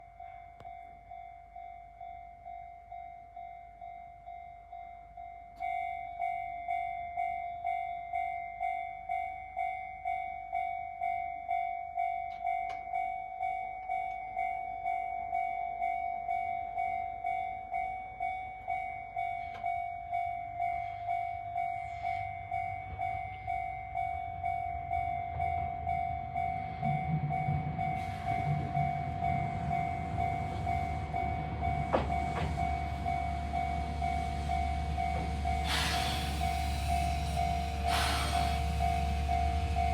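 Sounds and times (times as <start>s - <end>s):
level crossing warning bell: 0.0s - 39.9s
train low rumble: 0.0s - 39.9s.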